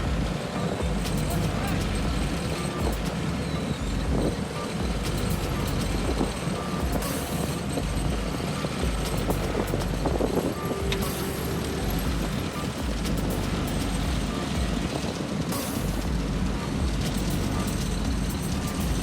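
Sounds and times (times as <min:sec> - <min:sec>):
diesel engines running: 0:00.0 - 0:19.0
reversing alarm beeps: 0:00.0 - 0:19.0.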